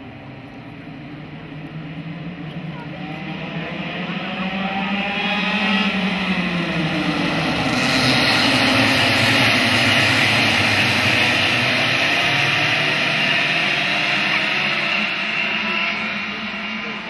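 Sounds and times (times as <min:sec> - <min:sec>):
racing kart engines: 0:00.0 - 0:17.0.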